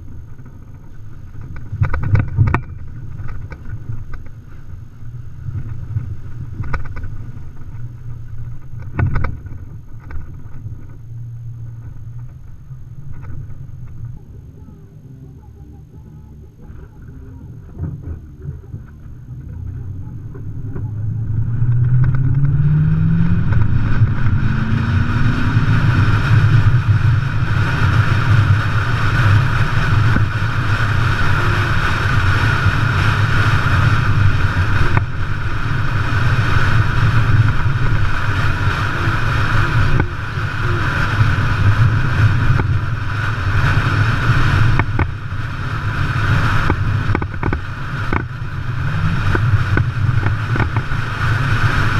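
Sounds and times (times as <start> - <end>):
road noise on dirt road: 0.0 - 51.9
vehicle engine: 0.0 - 51.9.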